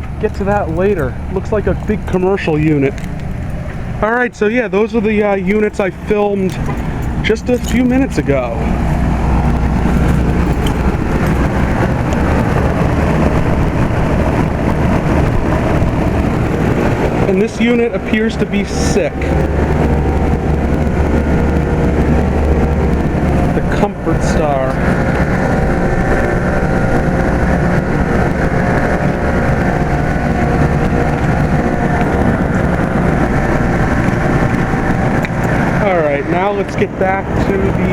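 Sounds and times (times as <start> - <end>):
air conditioner fan noise: 0.0 - 37.9
low hum: 0.0 - 37.9
whining tones: 0.0 - 37.9.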